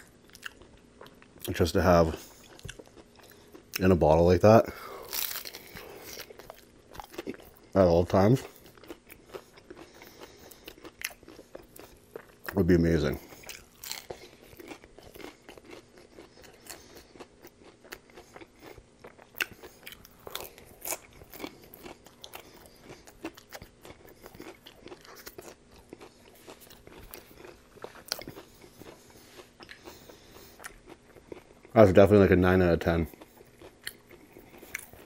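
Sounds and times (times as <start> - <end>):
crunchy chewing and biting: 0.0 - 35.0.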